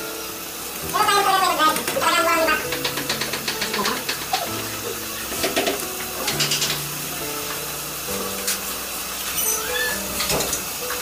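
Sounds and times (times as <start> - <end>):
music with slow held notes: 0.0 - 11.0.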